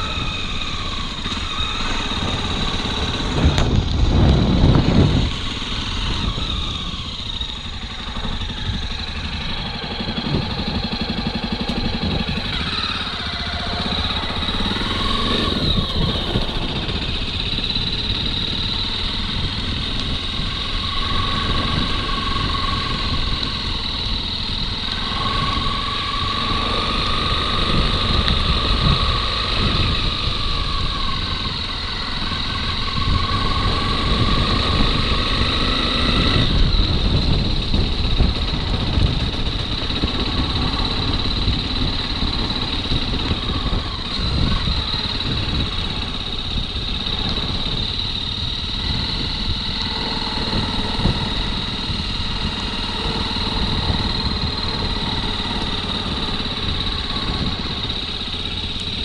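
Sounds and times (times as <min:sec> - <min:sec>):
motorcycle engine running: 0:00.0 - 0:59.0
thin whine: 0:00.0 - 0:59.0.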